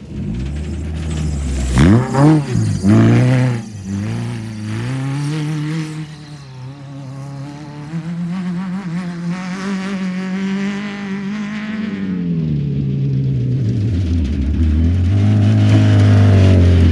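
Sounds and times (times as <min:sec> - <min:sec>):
vehicle engine running hard: 0:00.0 - 0:16.9.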